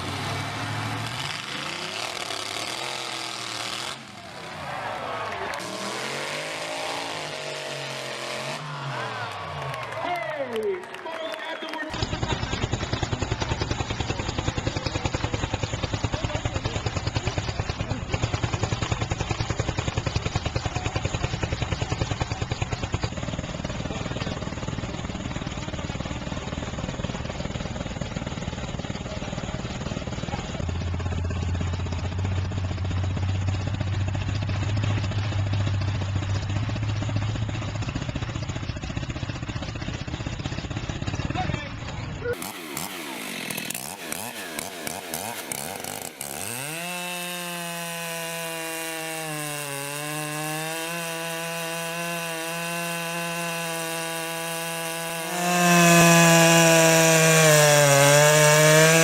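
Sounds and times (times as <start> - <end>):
chainsaw engine running: 0.0 - 59.0.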